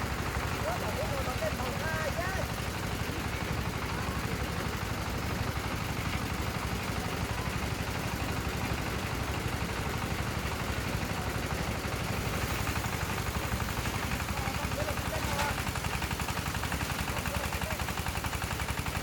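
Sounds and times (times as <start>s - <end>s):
engine running with pulsing rumble: 0.0s - 19.0s.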